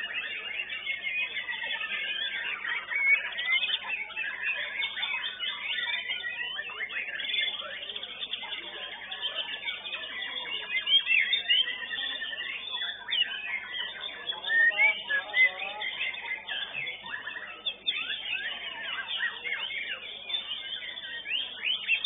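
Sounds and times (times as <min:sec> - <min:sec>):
songbirds singing whistled phrases: 0:00.0 - 0:22.0.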